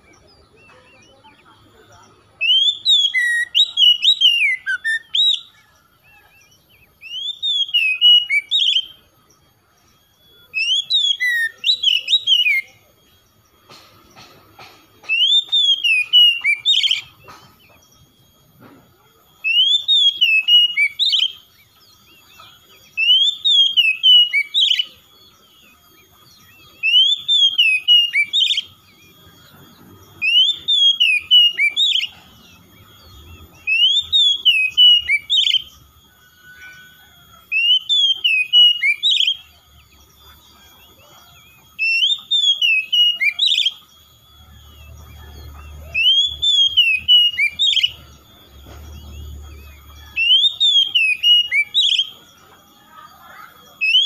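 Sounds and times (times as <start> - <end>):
bird singing whistled notes: 0.0 - 14.3, 15.0 - 54.0.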